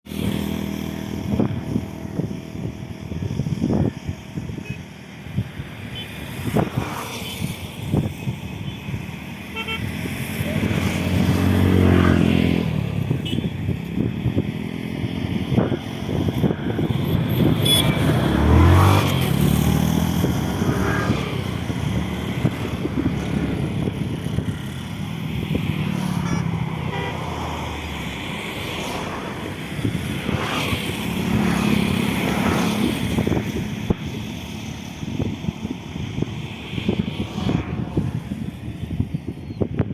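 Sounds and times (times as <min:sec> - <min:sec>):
wind buffeting microphone: 0:00.1 - 0:39.9.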